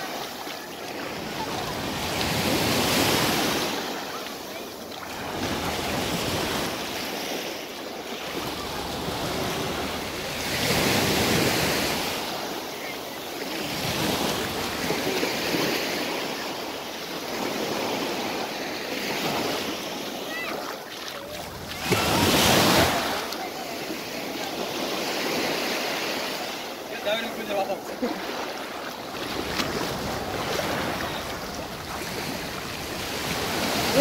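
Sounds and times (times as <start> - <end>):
ocean surf breaking on beach: 0.0 - 34.0.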